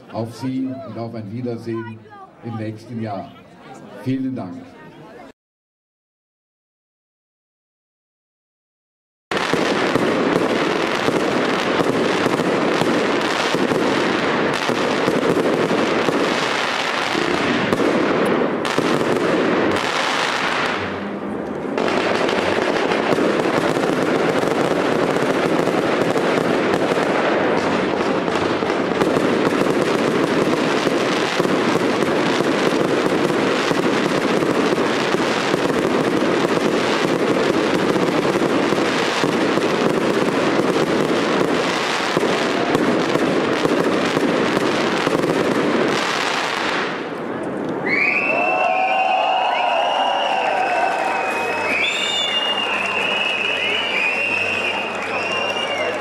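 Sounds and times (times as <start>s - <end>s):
fireworks bangs and crackling: 9.3s - 56.0s.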